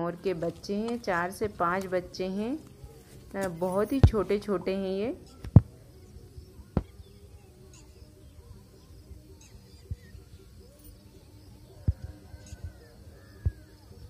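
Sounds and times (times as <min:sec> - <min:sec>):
bird chirps: 0:00.4 - 0:14.0.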